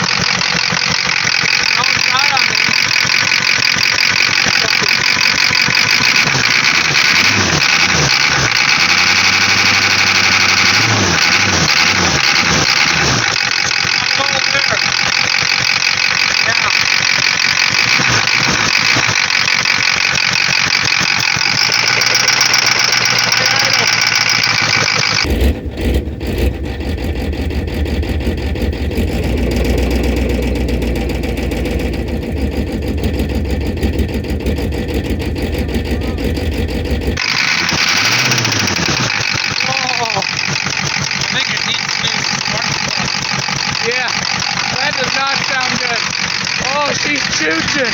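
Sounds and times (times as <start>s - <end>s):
diesel engine running rough: 0.0s - 47.9s.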